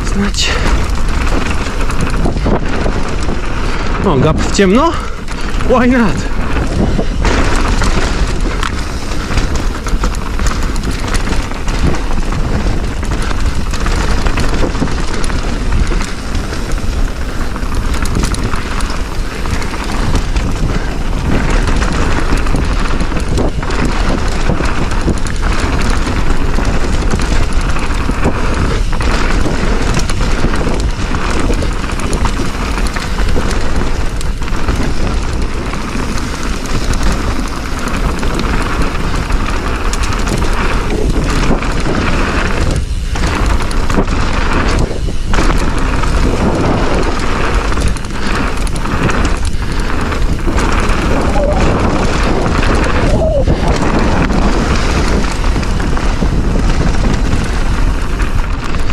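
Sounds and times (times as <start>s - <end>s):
wind and tyre noise: 0.0s - 58.9s
bike knocking over bumps: 6.2s - 58.9s.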